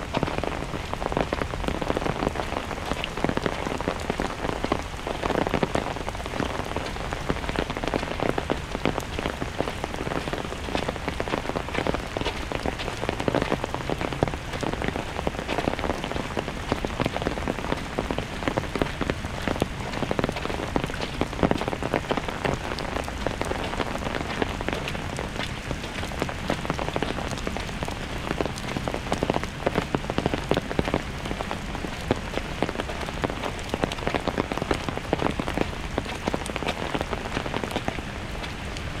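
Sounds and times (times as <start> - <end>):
raindrops ticking close by: 0.0 - 39.0
steady rain falling: 0.0 - 39.0.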